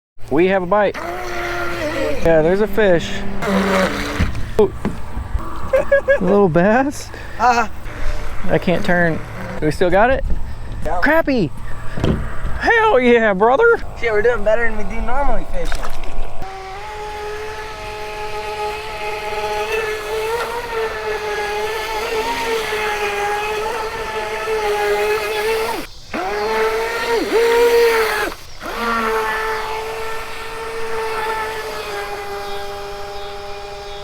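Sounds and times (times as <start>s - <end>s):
electric boat motor whining: 0.2s - 34.0s.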